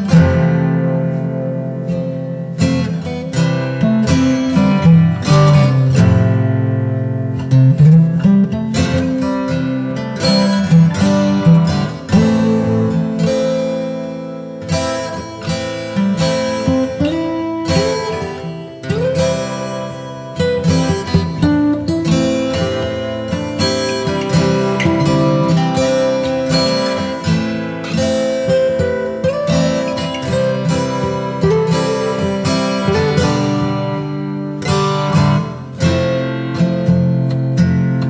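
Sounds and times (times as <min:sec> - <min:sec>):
acoustic guitar plucking: 0:00.0 - 0:38.0.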